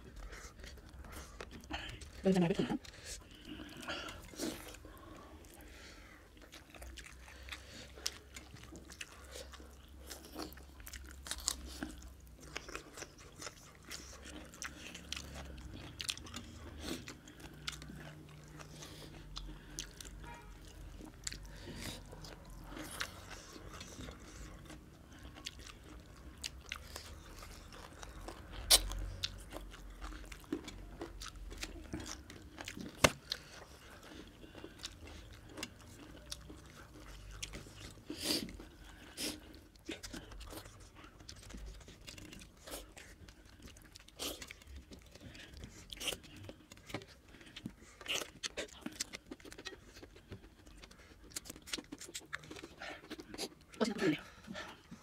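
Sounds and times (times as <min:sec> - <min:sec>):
chewing and mouth noises: 0:00.0 - 0:55.0.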